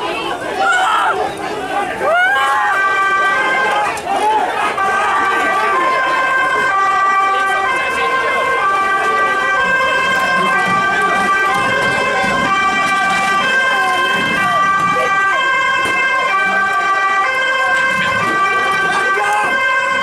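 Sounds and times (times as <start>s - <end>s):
crowd voices: 0.0s - 20.0s
two-tone emergency siren: 2.0s - 20.0s.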